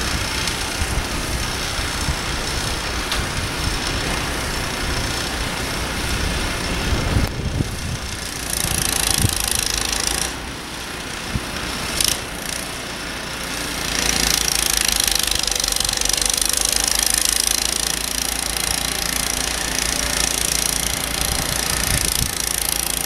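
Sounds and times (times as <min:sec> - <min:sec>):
snow blower engine running: 0:00.0 - 0:23.0.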